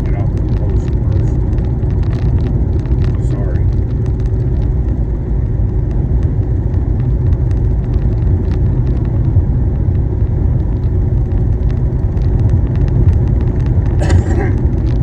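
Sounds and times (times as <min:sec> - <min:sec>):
car driving heard from inside: 0:00.0 - 0:15.0.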